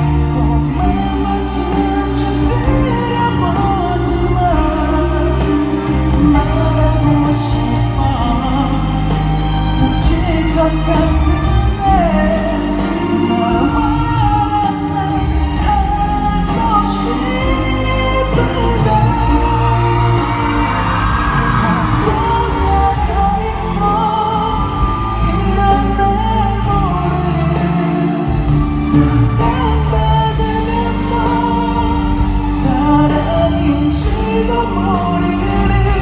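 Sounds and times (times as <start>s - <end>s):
band backing: 0.0s - 36.0s
man singing into a microphone: 0.0s - 36.0s
steady drum beat: 0.0s - 36.0s.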